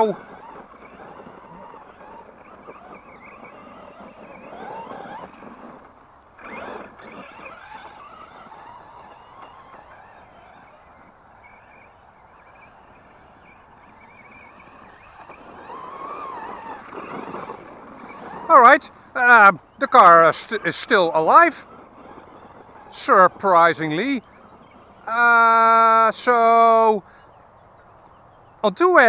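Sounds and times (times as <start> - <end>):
electric motor whining: 0.0 - 26.8.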